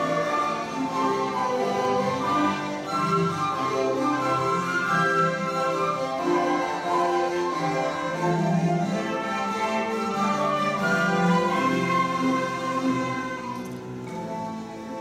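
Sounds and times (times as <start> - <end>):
orchestra of violins and flutes: 0.0 - 15.0.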